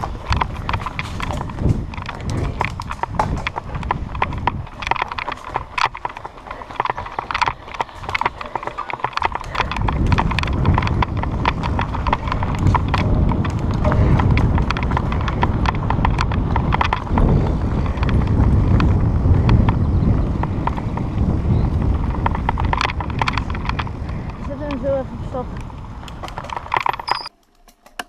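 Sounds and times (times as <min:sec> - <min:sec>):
wind rumbling on microphone: 0:00.0 - 0:27.3
bike clicking and rattling: 0:00.0 - 0:28.0.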